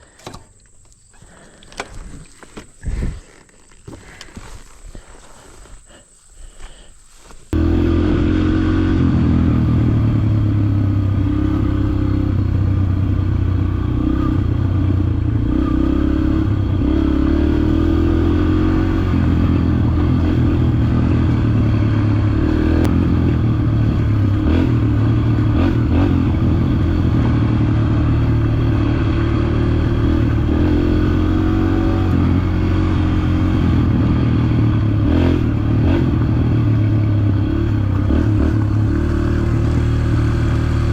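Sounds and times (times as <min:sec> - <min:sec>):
dirt bike engine revving: 0:07.5 - 0:40.9.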